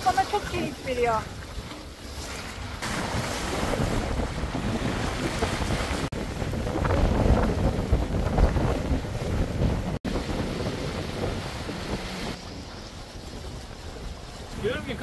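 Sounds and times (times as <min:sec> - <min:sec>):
sea and water noise: 0:00.0 - 0:15.0
wind buffeting microphone: 0:02.7 - 0:15.0.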